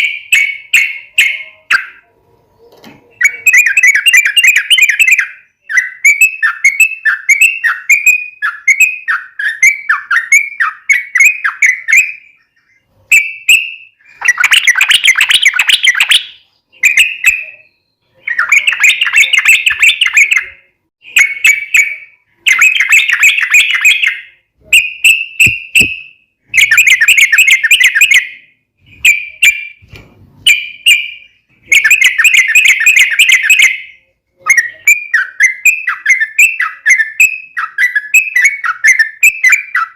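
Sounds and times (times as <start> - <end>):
bulbul singing: 0.0 - 2.1, 3.0 - 29.8, 30.5 - 39.9.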